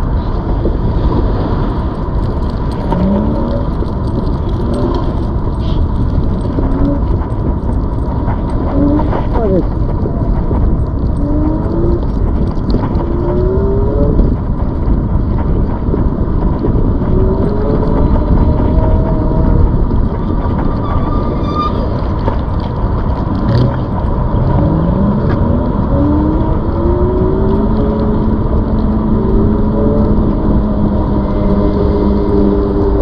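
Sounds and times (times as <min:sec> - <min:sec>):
wind rumble on microphone: 0:00.0 - 0:33.0.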